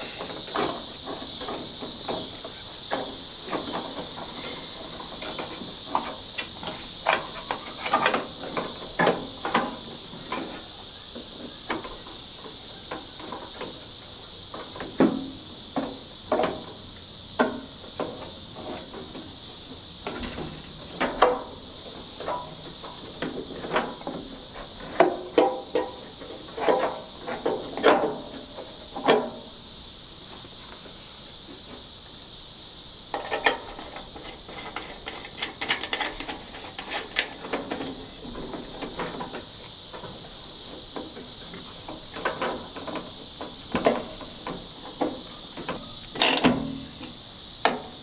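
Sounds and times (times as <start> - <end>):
steady high hiss: 0.0 - 48.0.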